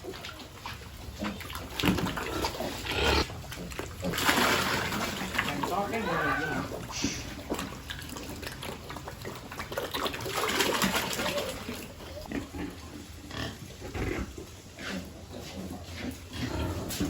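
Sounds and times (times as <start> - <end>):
piglets grunting and snuffling: 0.0 - 17.0.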